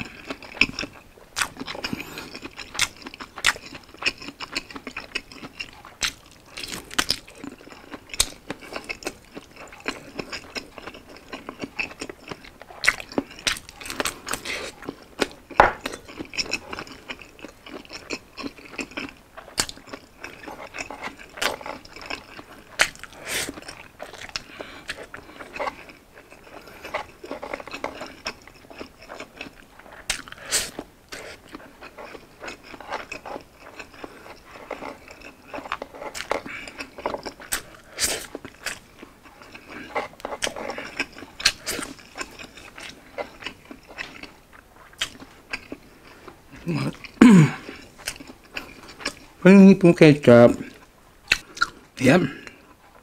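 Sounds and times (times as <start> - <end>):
chewing food: 0.0 - 53.0.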